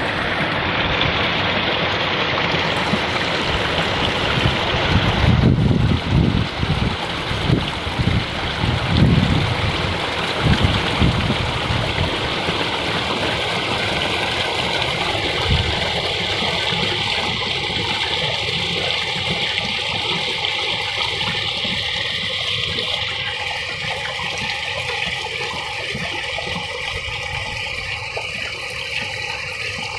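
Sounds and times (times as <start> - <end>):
running water rushing: 0.0 - 29.9.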